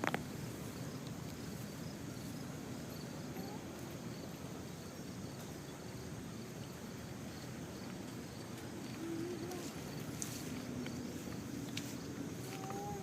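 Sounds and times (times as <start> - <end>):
faint insect chirps: 0.0 - 13.0.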